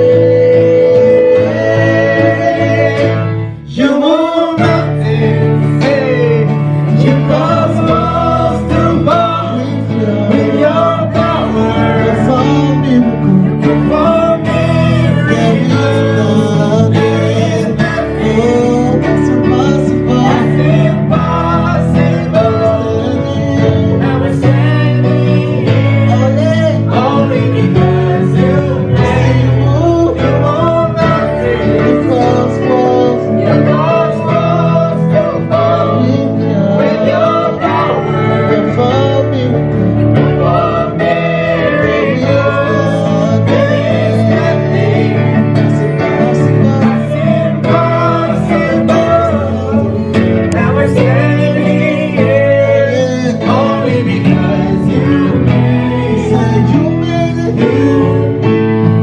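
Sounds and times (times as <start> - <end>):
bass: 0.0 - 59.0
guitar: 0.0 - 59.0
people singing: 0.0 - 59.0.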